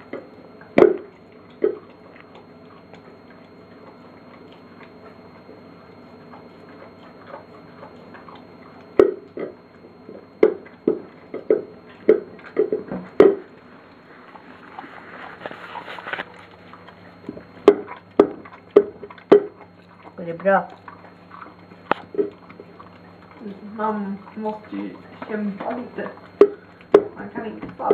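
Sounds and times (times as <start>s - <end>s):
dog crunching food: 0.0s - 27.9s.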